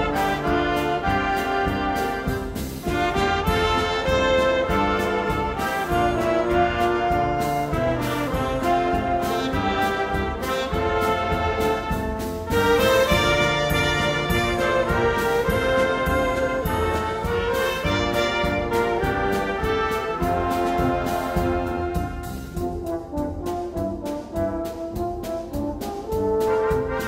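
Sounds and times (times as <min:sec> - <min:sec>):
brass band playing: 0:00.0 - 0:27.0
drum beat: 0:00.0 - 0:27.0.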